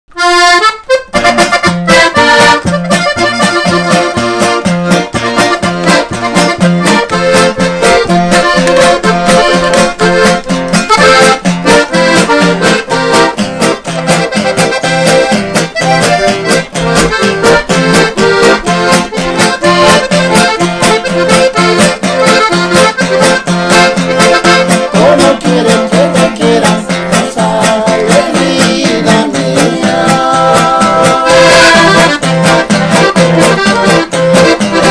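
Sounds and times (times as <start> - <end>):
accordion melody: 0.1 - 34.9
acoustic guitar strumming: 0.1 - 34.9.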